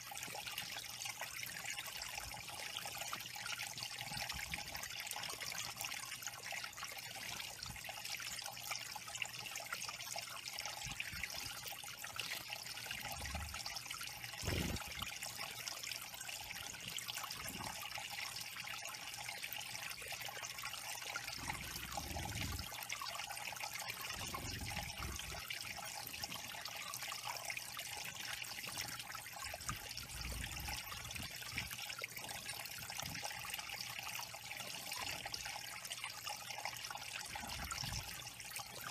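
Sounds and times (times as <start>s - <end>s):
small waterfall trickling over rocks: 0.0s - 38.9s.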